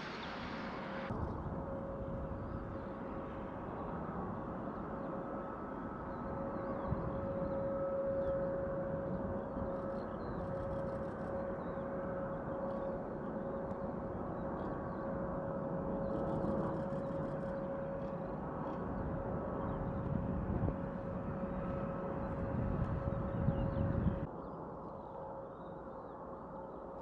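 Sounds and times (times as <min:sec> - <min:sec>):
distant jet engine rumble: 0:00.0 - 0:27.0
jet engine whine: 0:00.0 - 0:27.0.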